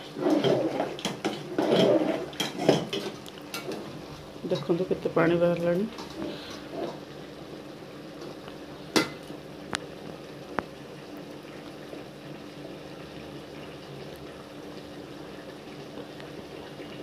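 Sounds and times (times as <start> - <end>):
curry bubbling in a pan: 0.0 - 17.0.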